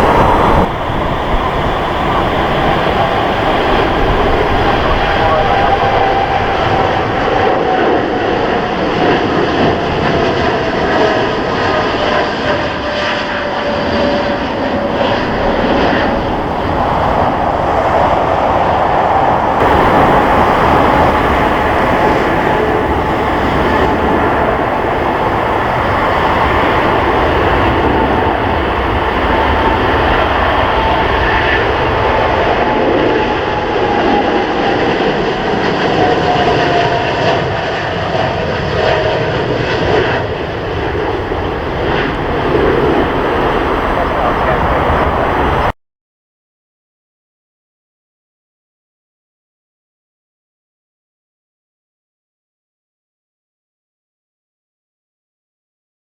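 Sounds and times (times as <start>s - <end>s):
jet airliner taking off: 0.0s - 45.8s.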